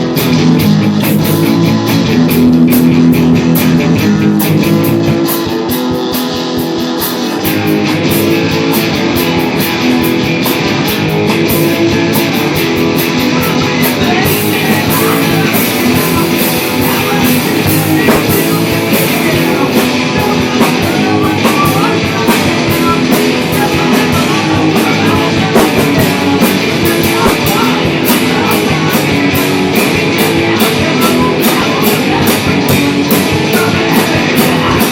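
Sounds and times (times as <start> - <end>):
drum kit: 0.0 - 34.9
electric guitar: 0.0 - 34.9.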